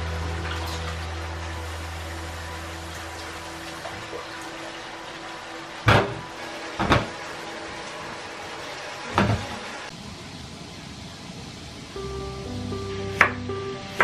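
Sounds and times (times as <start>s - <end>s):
running tap water: 0.0s - 14.0s.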